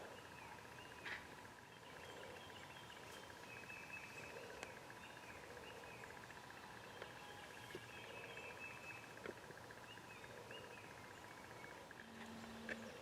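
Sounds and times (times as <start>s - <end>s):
distant songbirds calling: 0.0s - 13.0s.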